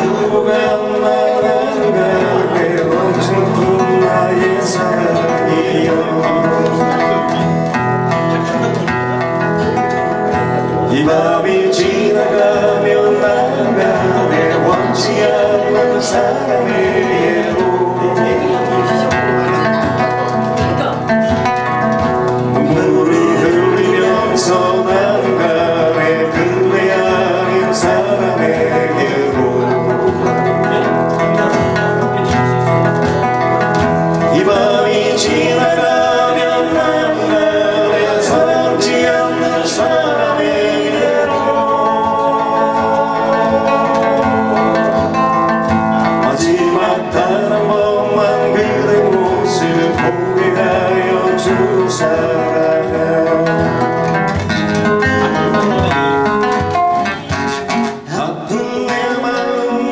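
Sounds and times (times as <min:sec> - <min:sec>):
acoustic guitars playing: 0:00.0 - 0:59.9
man singing into a microphone: 0:00.0 - 0:59.9.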